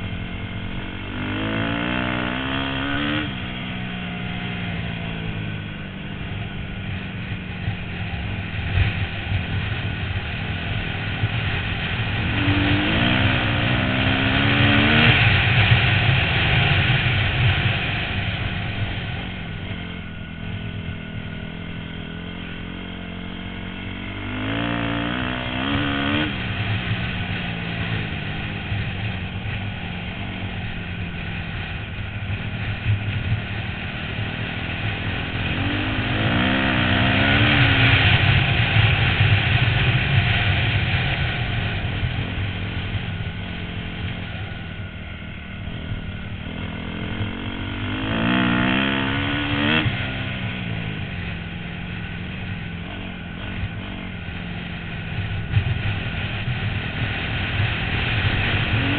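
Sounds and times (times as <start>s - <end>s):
dirt bike engine accelerating: 0.0s - 58.9s.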